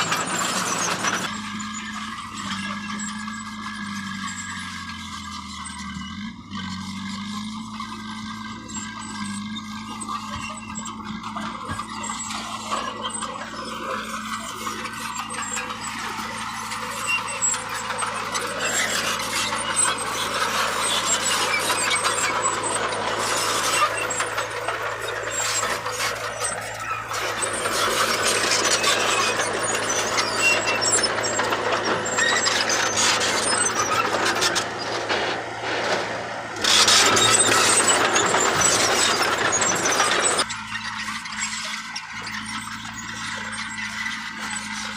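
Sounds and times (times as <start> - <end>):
bulldozer engine: 0.0 - 44.9
machine grinding and clattering: 0.0 - 44.9
metal clanks and squeaks: 0.0 - 44.9.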